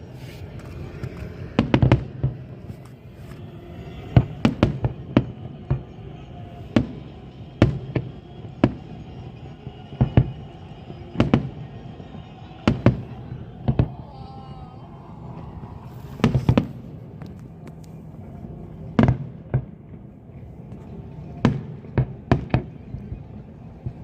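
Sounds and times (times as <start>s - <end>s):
fireworks exploding: 0.0s - 14.1s, 14.8s - 24.0s.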